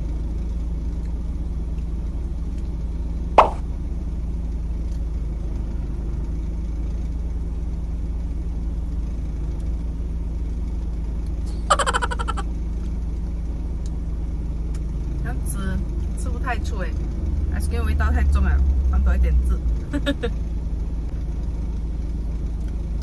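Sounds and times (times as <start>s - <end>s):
lorry engine idling: 0.0s - 23.0s.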